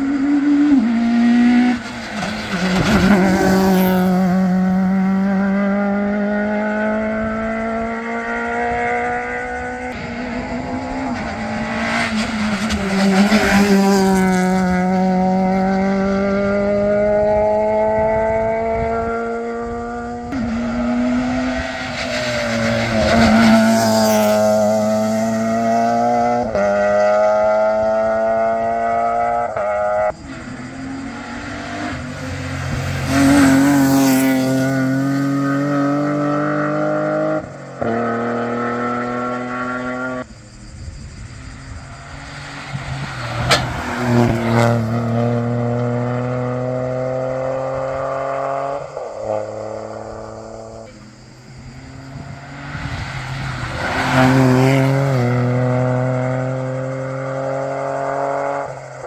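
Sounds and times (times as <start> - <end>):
rally car engines at high revs: 0.0 - 59.0.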